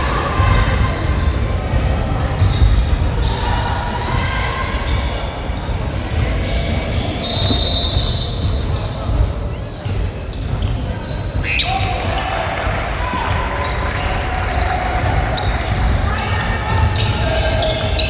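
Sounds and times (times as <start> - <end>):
spectators' voices echoing: 0.0 - 18.0.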